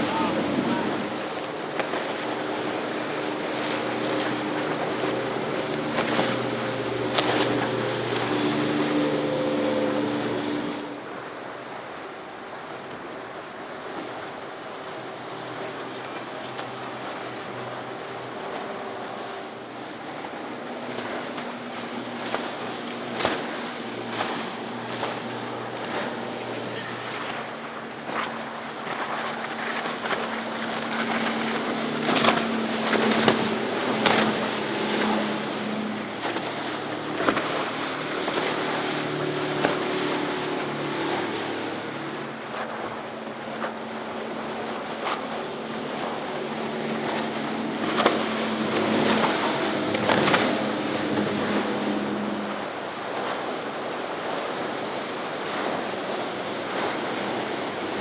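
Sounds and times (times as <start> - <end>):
surf hissing: 0.0 - 11.3, 17.6 - 58.0
motorboat engines humming: 0.0 - 58.0
wind: 0.0 - 58.0.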